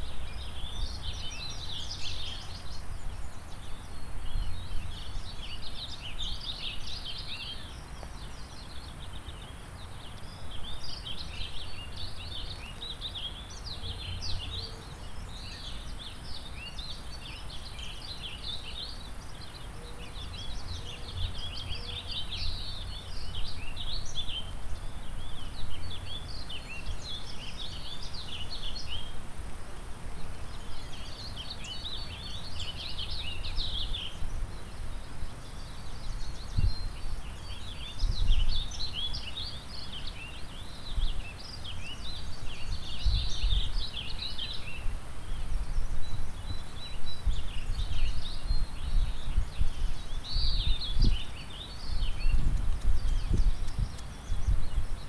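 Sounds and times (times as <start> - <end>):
wind: 0.0 - 55.0
songbirds chirping and trilling: 0.1 - 55.0.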